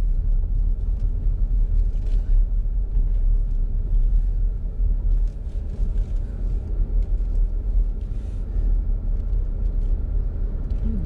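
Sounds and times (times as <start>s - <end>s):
car engine rumble: 0.0s - 11.0s
road noise inside car: 0.0s - 11.0s.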